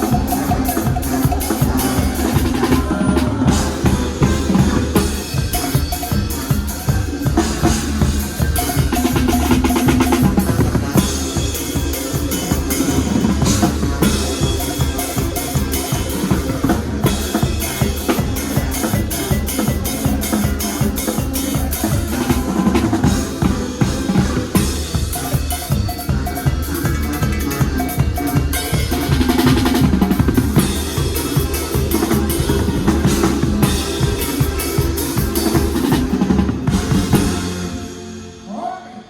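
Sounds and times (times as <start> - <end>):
drum kit playing fast: 0.0 - 38.6
sustained bass line: 0.0 - 38.6.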